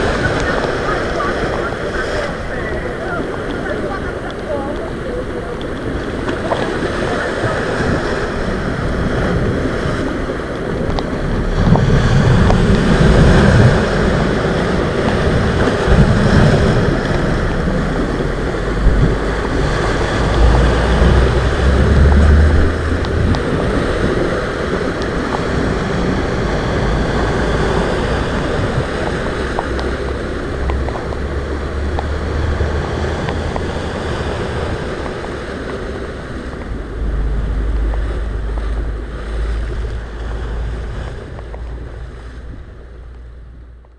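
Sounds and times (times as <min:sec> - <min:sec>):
wind buffeting microphone: 0:00.0 - 0:43.8
sea waves breaking: 0:00.0 - 0:43.9.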